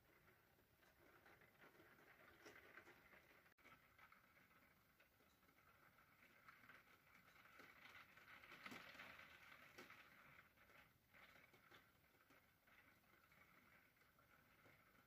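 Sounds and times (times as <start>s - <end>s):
faint rain patter: 0.0s - 15.0s.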